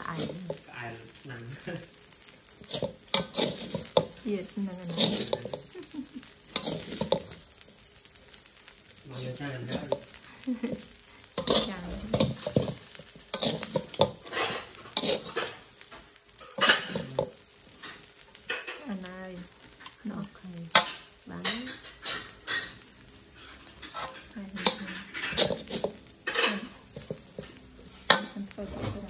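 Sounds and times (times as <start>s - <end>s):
spatula scraping metal wok: 0.0s - 1.3s, 2.2s - 7.6s, 9.0s - 18.9s, 19.7s - 29.0s
rice sizzling: 0.0s - 29.0s.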